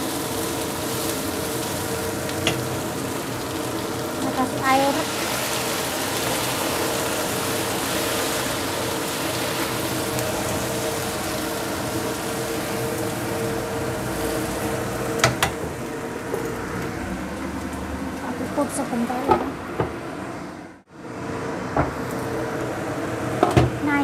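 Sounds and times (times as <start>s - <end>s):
vegetables sizzling in wok: 0.0s - 19.7s.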